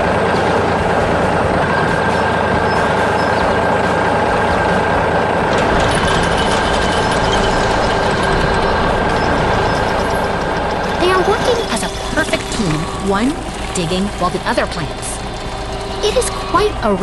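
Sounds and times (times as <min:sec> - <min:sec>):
heavy machine engines running: 0:00.0 - 0:17.0.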